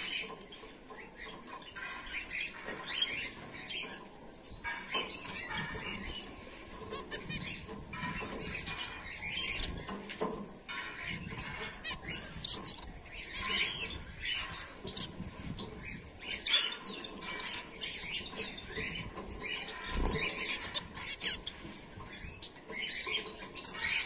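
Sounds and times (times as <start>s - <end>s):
finches chirping: 0.0s - 24.0s.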